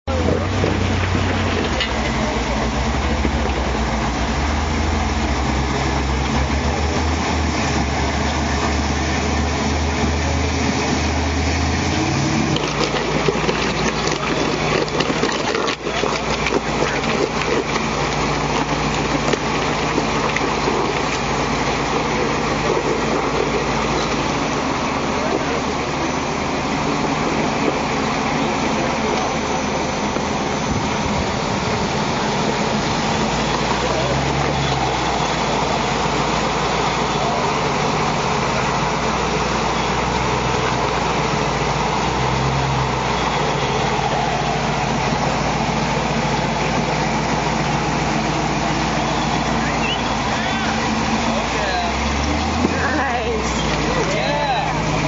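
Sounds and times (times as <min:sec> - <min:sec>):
vehicle engine running at low revs: 0:00.1 - 0:55.0.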